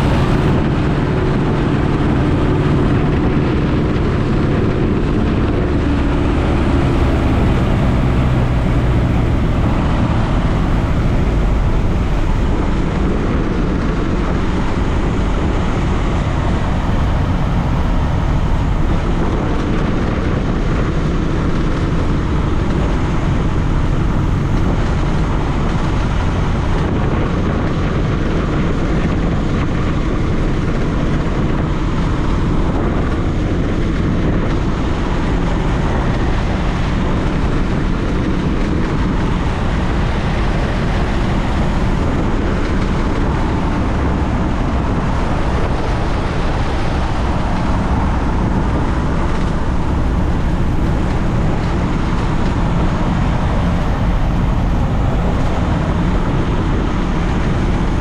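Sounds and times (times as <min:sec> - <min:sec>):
airplane engine and propeller: 0:00.0 - 0:58.0
wind noise: 0:00.0 - 0:58.0.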